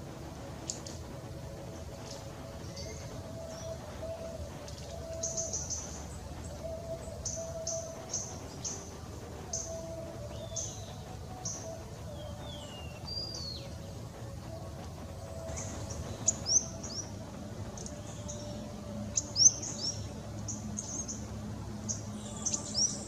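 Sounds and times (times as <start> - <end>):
birds chip notes: 0.0 - 23.0.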